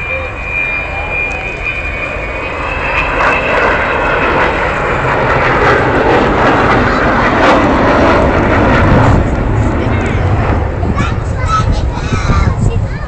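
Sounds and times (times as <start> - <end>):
high whine: 0.0 - 12.9
jet engines roaring: 0.0 - 13.0.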